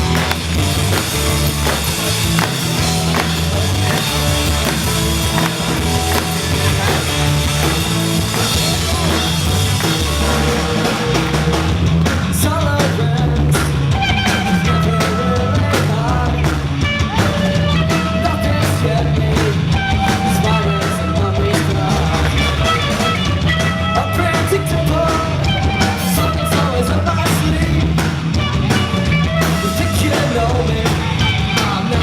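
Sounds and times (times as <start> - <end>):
bass: 0.0 - 32.0
drum kit: 0.0 - 32.0.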